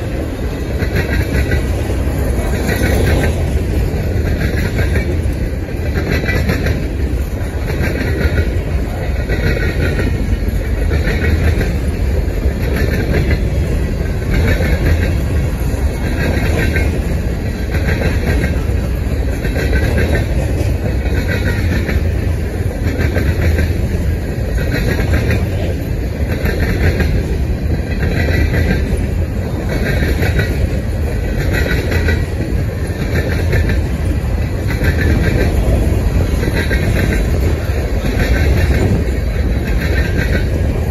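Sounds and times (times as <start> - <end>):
rail cars clattering: 0.0 - 40.9
train wheels rumbling on rail: 0.0 - 40.9.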